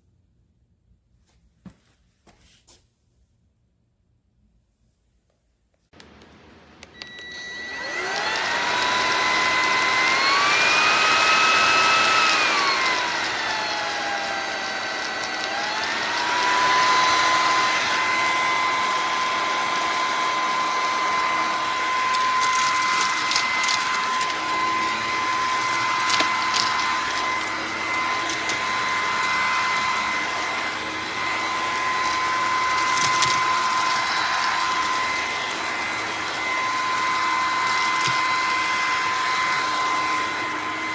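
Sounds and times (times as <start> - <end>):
vacuum cleaner motor whine: 6.0 - 40.9.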